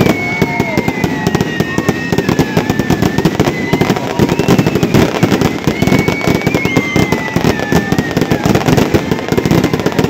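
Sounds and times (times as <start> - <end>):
firework crackles and pops: 0.0 - 10.0
high whistle dropping in pitch: 0.0 - 10.0.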